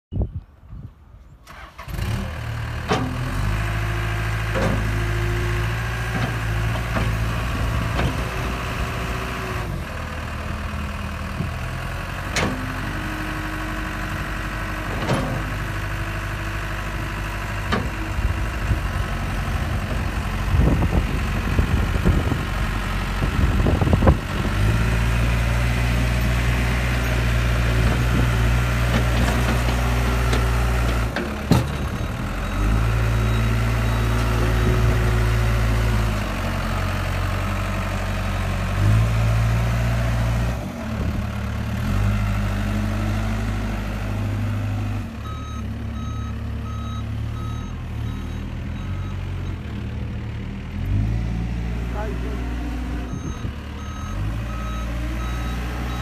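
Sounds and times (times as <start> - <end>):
diesel engine running: 1.4 - 56.0.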